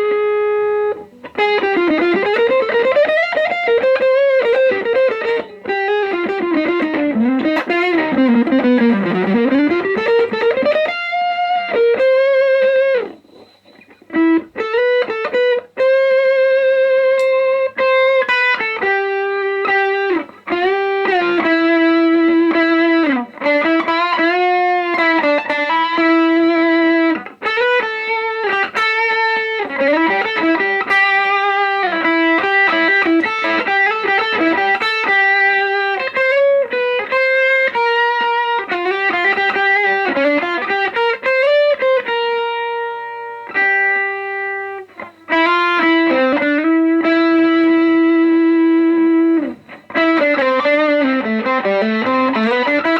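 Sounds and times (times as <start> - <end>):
electric guitar lead line: 0.0 - 52.9.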